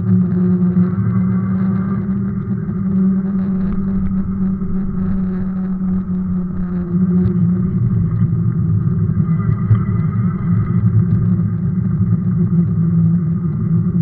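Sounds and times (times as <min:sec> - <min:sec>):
bike tyres rumbling on asphalt: 0:00.0 - 0:14.0.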